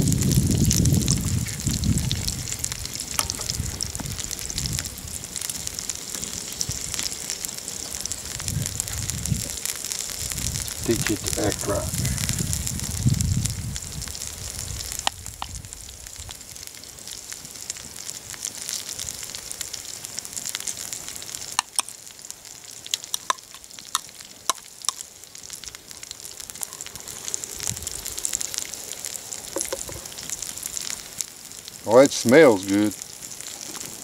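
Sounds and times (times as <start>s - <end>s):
meat sizzling in a skillet: 0.0s - 34.0s.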